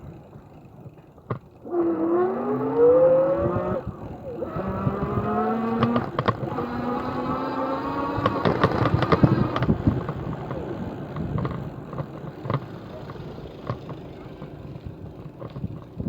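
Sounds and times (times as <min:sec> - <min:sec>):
electric bicycle motor whine: 0:00.0 - 0:16.0.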